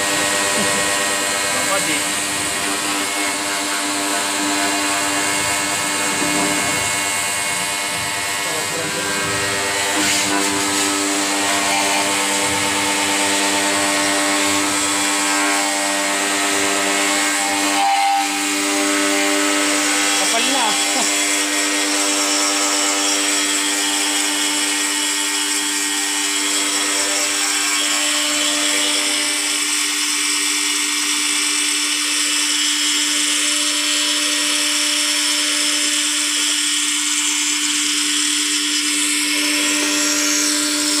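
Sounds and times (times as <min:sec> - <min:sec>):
pressure washer motor hum: 0:00.0 - 0:41.0.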